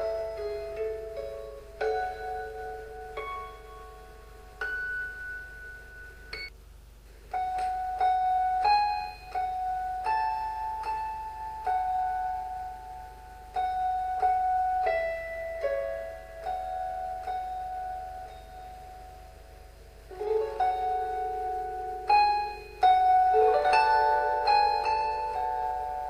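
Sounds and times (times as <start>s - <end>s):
slow piano-like keyboard notes: 0.0s - 6.6s, 7.2s - 26.0s.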